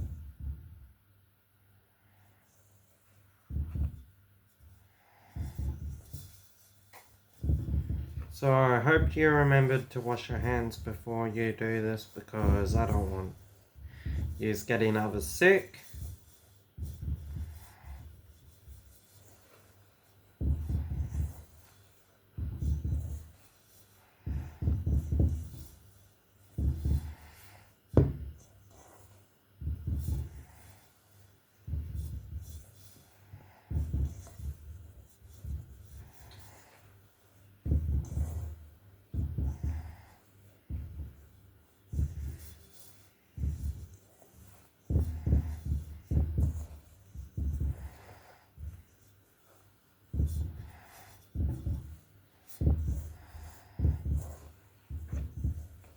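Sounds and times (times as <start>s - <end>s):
hands kneading dough thumps: 0.0s - 1.0s, 3.4s - 55.9s
fingers rubbing butter into flour: 3.4s - 55.9s.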